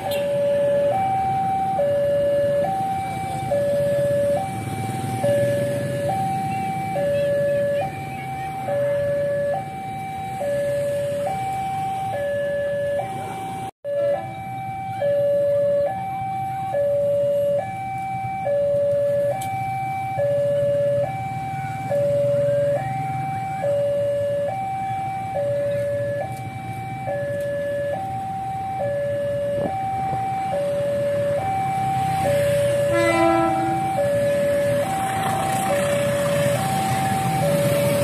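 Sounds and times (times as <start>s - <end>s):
level crossing two-tone alarm: 0.0s - 38.0s.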